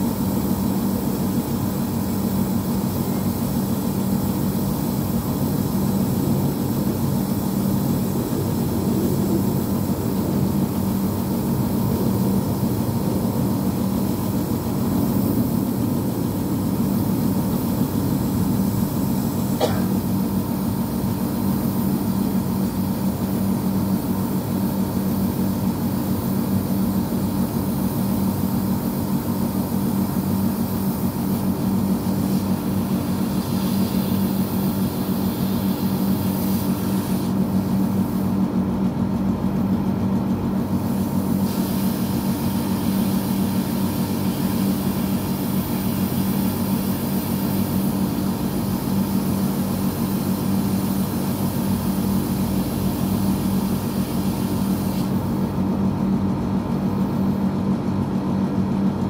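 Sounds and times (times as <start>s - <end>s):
air conditioner compressor hum: 0.0s - 59.0s
condenser fan whirring: 0.0s - 59.0s.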